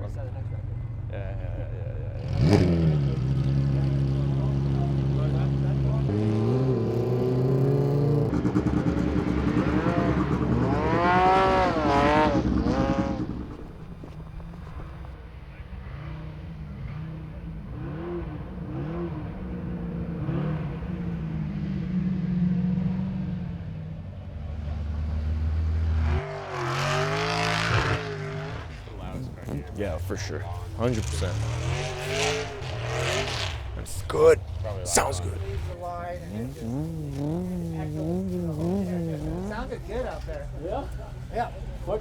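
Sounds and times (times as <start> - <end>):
race car engine idling and revving: 0.0 - 42.0.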